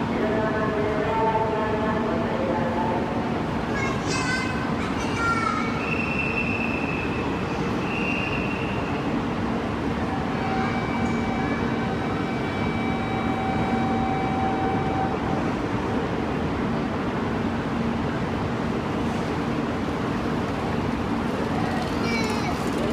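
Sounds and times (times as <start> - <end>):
train rumble: 0.0 - 22.9.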